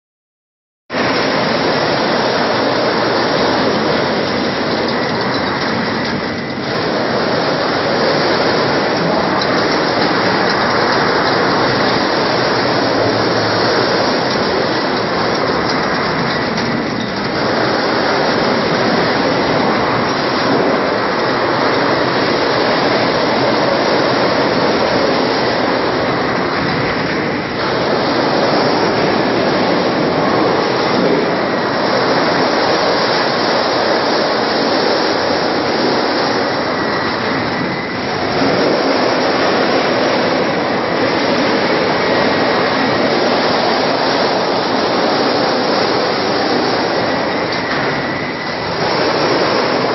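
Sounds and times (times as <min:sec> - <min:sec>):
steel rollers mechanical din: 0:00.9 - 0:49.9.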